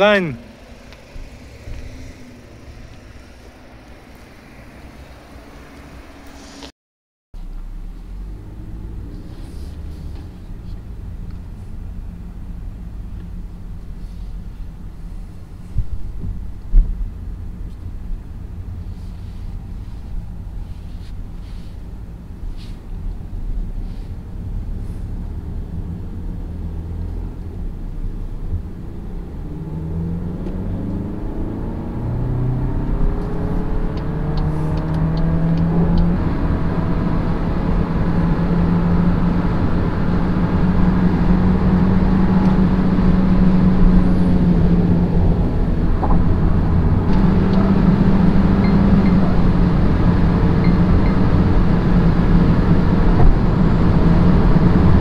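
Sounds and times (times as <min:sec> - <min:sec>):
car engine accelerating: 0:00.0 - 0:06.7, 0:07.4 - 0:55.0
road and tyre rumble: 0:00.0 - 0:06.7, 0:07.4 - 0:55.0.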